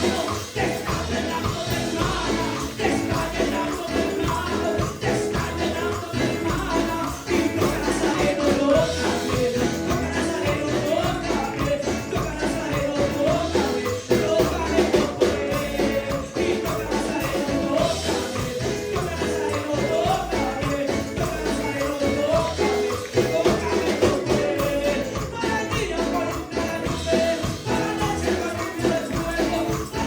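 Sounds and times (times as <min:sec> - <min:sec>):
band with strong bass: 0:00.0 - 0:30.0
person singing: 0:00.0 - 0:30.0
shaken tambourine: 0:00.0 - 0:30.0.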